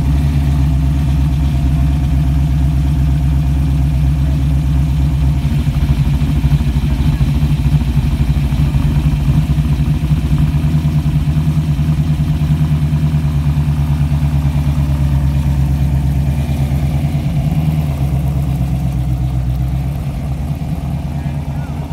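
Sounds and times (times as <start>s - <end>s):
car engine pulsing idle: 0.0s - 21.9s.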